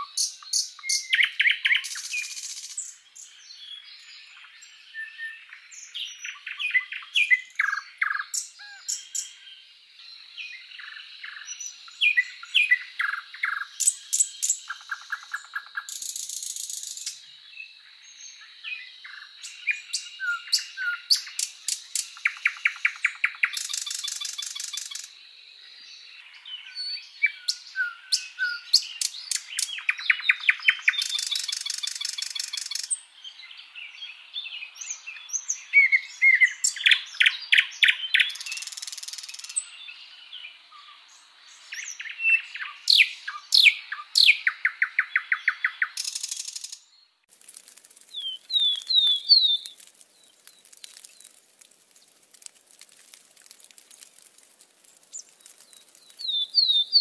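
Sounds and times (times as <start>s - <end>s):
songbirds chirping and singing: 0.0s - 47.3s, 48.1s - 51.4s, 53.4s - 57.0s.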